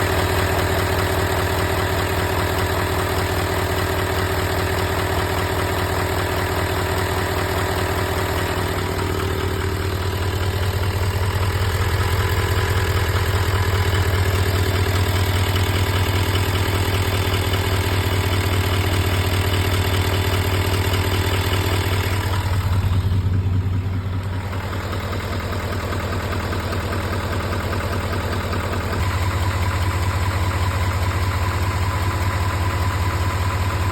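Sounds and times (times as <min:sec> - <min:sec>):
diesel engine idling with ticking: 0:00.0 - 0:33.9.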